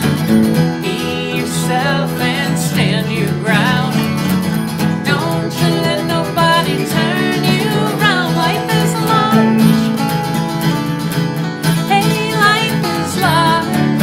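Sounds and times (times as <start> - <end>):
acoustic guitars strumming: 0.0 - 14.0
woman singing: 0.8 - 10.0, 11.8 - 14.0.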